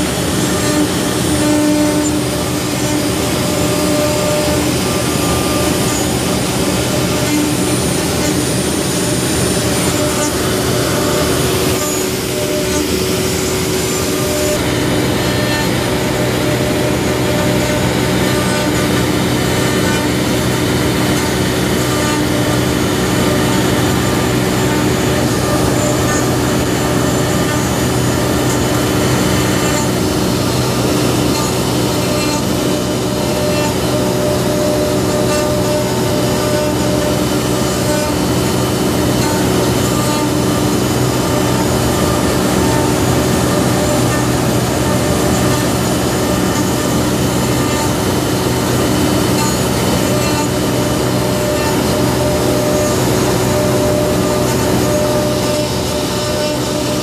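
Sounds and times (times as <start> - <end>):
cnc router spindle whine: 0.0 - 57.0.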